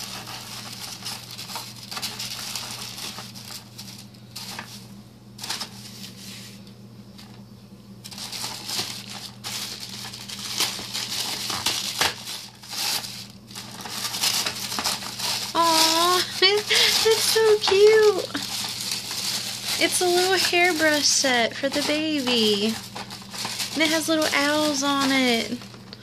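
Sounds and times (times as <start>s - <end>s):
tissue paper crinkling: 0.0s - 7.4s, 8.0s - 26.0s.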